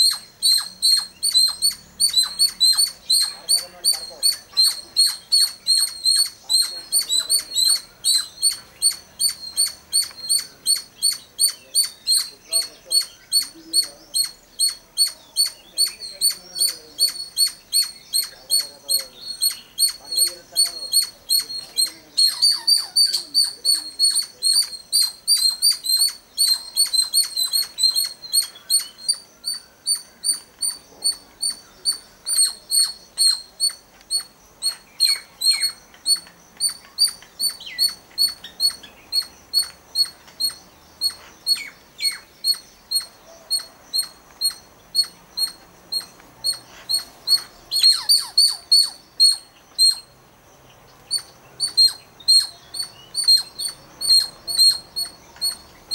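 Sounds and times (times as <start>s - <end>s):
lower falling bird calls: 0.0s - 55.9s
sharp high bird chirps: 0.0s - 55.9s.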